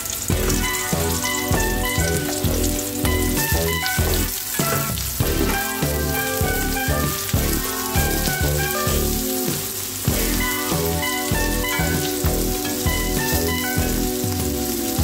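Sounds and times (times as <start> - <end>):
patties sizzling in oil: 0.0 - 15.0
background music: 0.1 - 15.0.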